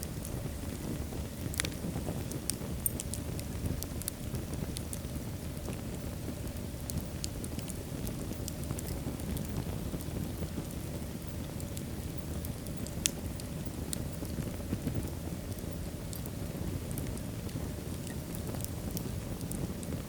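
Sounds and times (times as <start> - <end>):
fire crackling and popping: 0.0 - 20.0
wood fire burning: 0.0 - 20.0.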